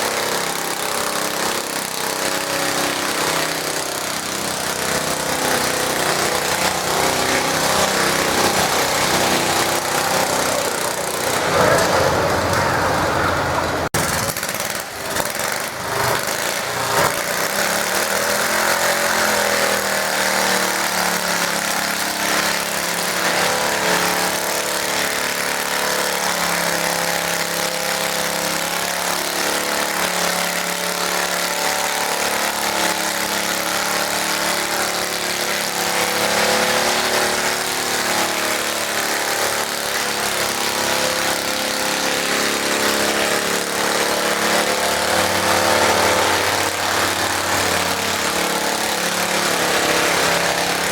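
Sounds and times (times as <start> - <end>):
garden tractor engine running: 0.0 - 50.9.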